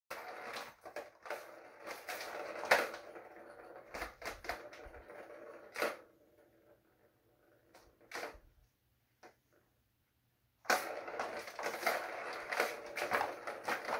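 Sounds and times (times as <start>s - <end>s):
plastic ball rolling in track: 0.1s - 8.6s, 10.6s - 13.9s.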